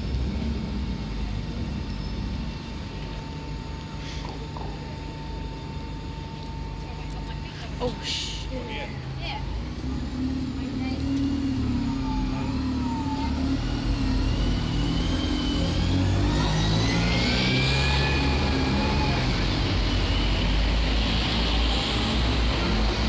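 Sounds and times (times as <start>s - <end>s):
diesel buses passing: 0.0s - 23.0s
rising engine whine: 0.0s - 23.0s.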